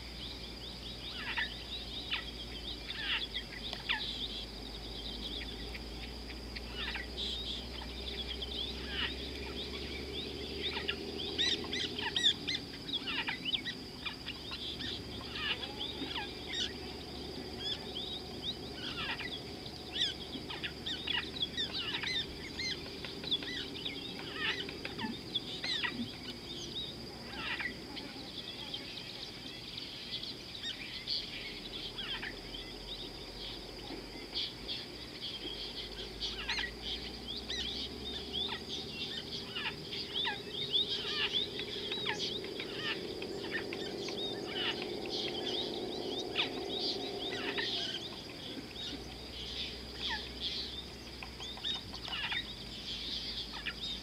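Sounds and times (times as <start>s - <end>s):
birds chirping and whistling: 0.0s - 54.0s
steady high-pitched hum: 0.0s - 54.0s.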